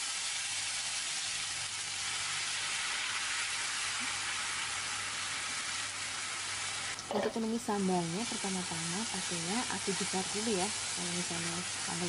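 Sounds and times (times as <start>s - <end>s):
chili paste sizzling in hot oil: 0.0s - 12.0s.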